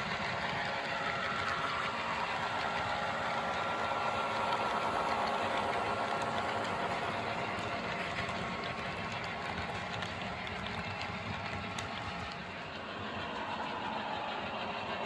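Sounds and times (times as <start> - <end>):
model train motors whirring: 0.0 - 15.0
wheels rattling over rails: 0.0 - 15.0.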